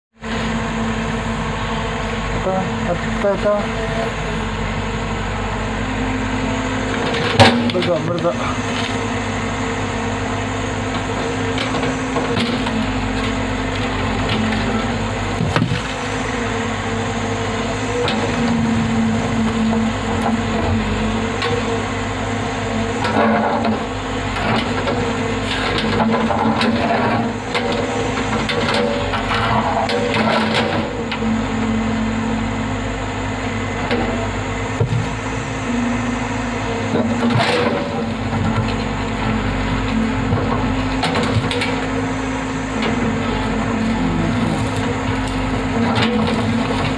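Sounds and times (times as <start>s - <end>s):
excavator diesel engine running: 0.2s - 46.9s.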